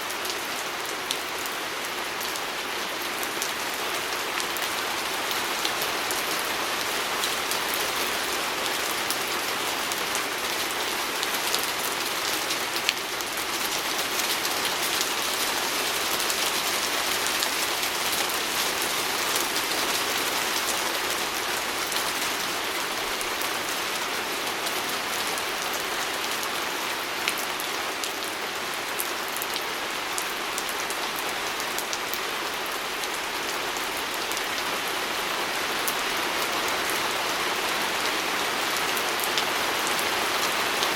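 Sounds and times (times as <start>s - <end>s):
rain on a window: 0.1s - 40.9s.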